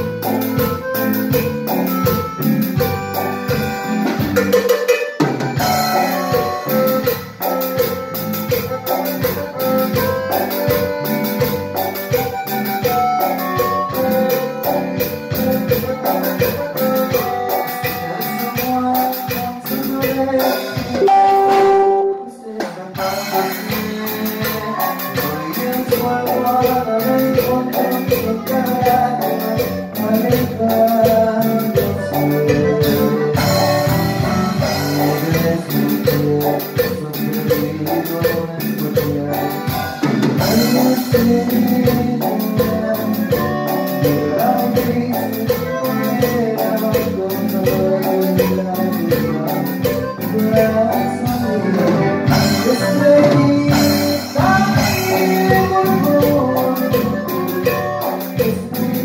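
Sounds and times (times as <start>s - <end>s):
bass guitar: 0.0s - 59.0s
drum kit beat: 0.0s - 59.0s
electric guitar: 0.0s - 59.0s
electronic keyboard: 0.0s - 59.0s.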